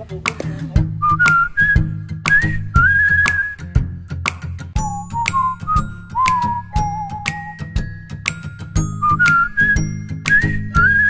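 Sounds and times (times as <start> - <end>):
steady beat: 0.0 - 11.0
whistled melody: 1.0 - 3.8, 4.8 - 11.0.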